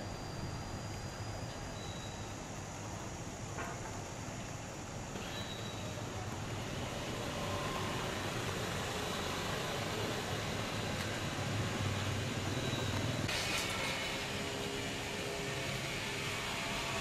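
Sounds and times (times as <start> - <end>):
city hiss: 0.0 - 17.0
low city rumble: 0.0 - 17.0.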